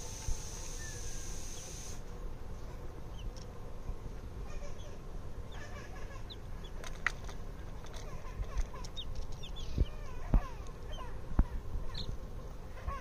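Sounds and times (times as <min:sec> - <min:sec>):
baby chicks peeping: 0:00.0 - 0:02.0, 0:03.1 - 0:03.4, 0:04.5 - 0:13.0.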